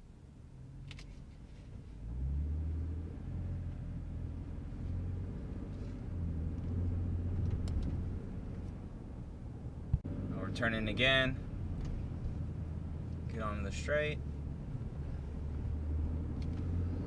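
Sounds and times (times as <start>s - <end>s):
engine rumble inside vehicle cab: 0.0s - 17.0s.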